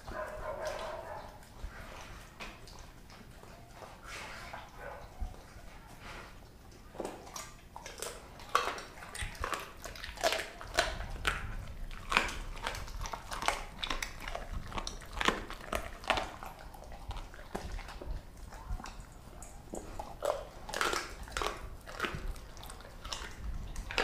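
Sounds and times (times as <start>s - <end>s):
dog chewing bones: 0.0s - 24.0s.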